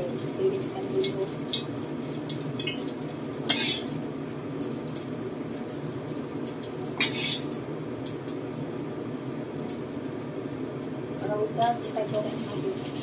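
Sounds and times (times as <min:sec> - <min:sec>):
low rush of hot oil: 0:00.0 - 0:13.0
oil ticks and crackles: 0:00.0 - 0:13.0.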